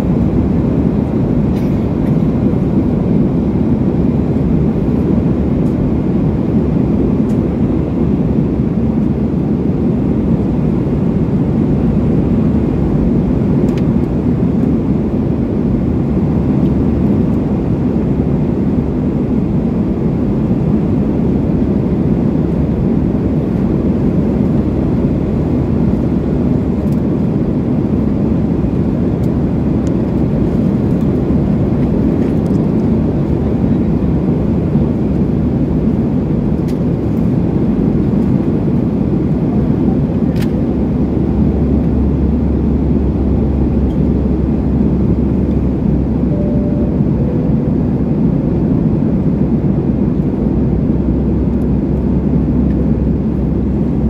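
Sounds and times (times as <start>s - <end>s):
jet engines roaring in cabin: 0.0s - 54.0s.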